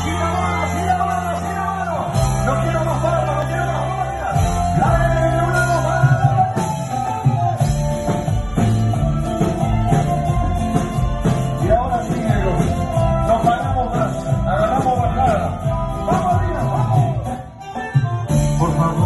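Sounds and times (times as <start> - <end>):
guitars: 0.0 - 19.0
hand percussion: 0.0 - 19.0
steady bass line: 0.0 - 19.0.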